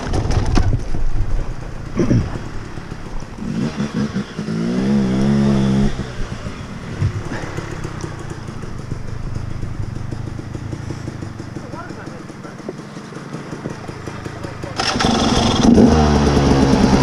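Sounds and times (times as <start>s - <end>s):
dirt bike engine revving: 1.1s - 17.0s.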